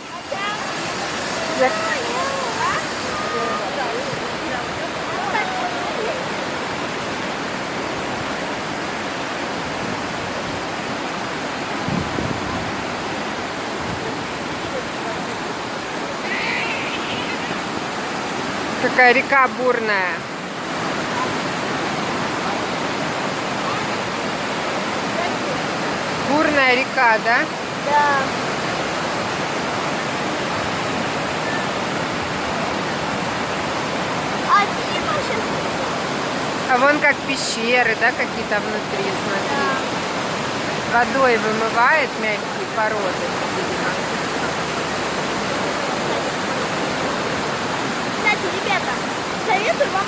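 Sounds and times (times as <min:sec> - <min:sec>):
waterfall and river roar: 0:00.0 - 0:50.0.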